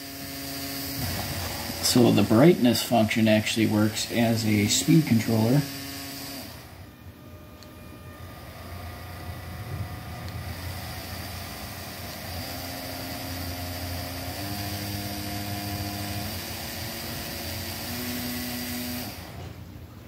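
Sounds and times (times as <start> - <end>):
small motor humming and whining: 0.0 - 20.0.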